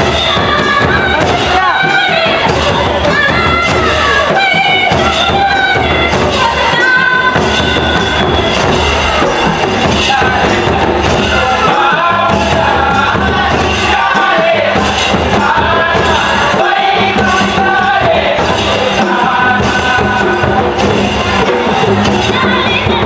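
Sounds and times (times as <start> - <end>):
steady drum beat: 0.0 - 23.0
voices singing a folk melody: 0.0 - 23.0.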